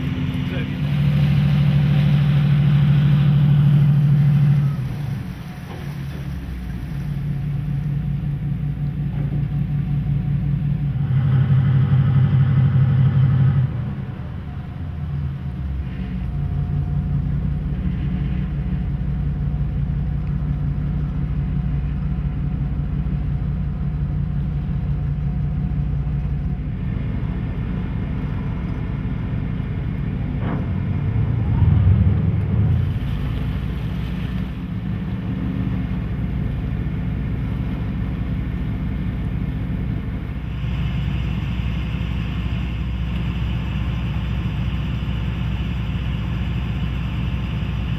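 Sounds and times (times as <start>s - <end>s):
tugboat engine droning: 0.0s - 47.9s.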